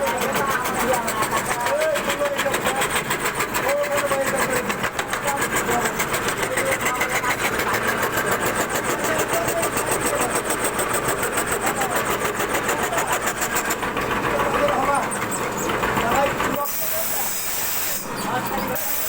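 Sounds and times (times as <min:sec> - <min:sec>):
router cutting wood pulsing: 0:00.0 - 0:19.0.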